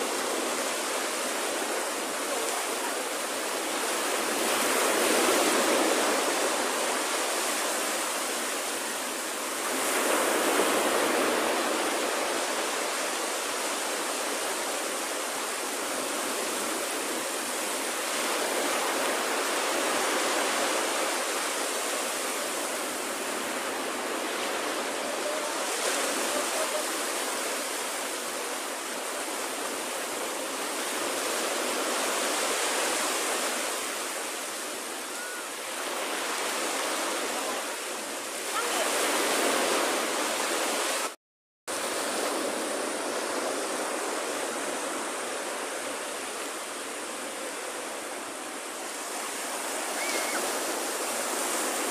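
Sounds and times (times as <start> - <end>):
waves breaking on beach: 0.0 - 51.9.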